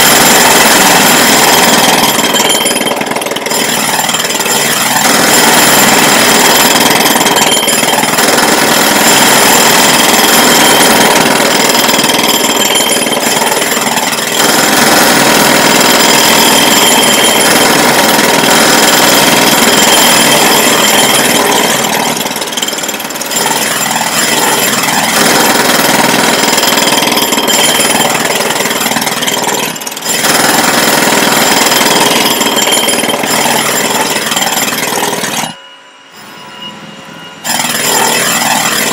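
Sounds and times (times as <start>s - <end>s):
loud jackhammer hammering: 0.0s - 35.6s, 37.4s - 38.9s.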